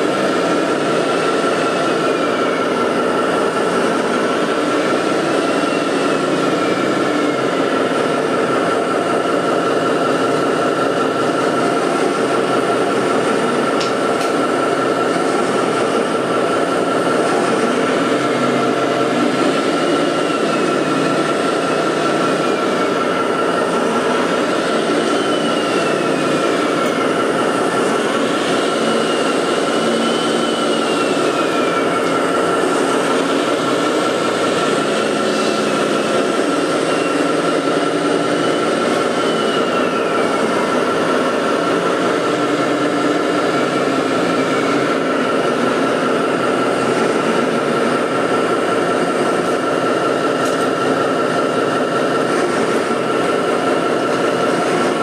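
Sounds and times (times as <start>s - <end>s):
machinery high whine: 0.0s - 55.0s.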